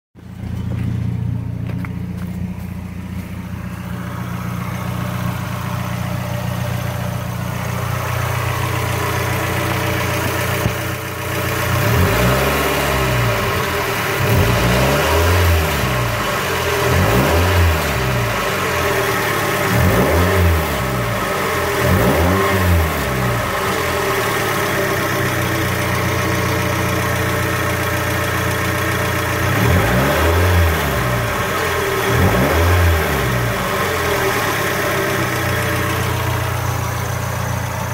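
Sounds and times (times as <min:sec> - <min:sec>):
car engine idling and revving: 0:00.2 - 0:37.9.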